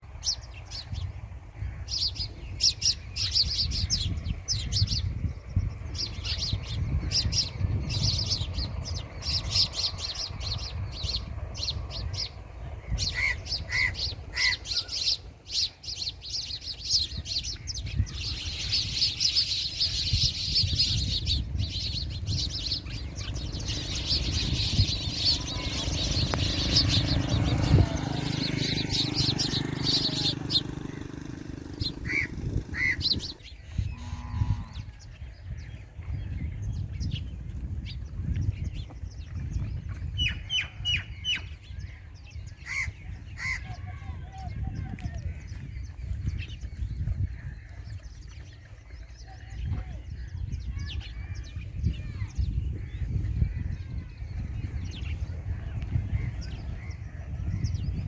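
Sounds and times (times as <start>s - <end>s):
birds chirping: 0.0s - 58.0s
steady low rumble: 0.0s - 58.0s.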